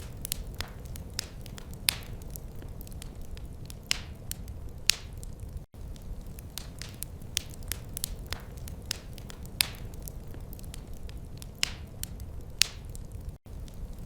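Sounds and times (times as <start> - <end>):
fireplace fire crackling and popping: 0.0 - 14.0
low rumble of flames: 0.0 - 14.0.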